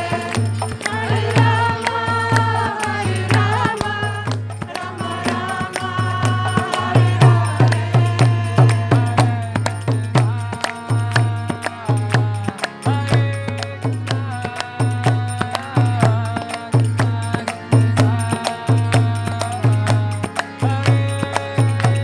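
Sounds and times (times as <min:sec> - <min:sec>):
chanted mantra: 0:00.0 - 0:22.0
hand drum beat: 0:00.0 - 0:22.0.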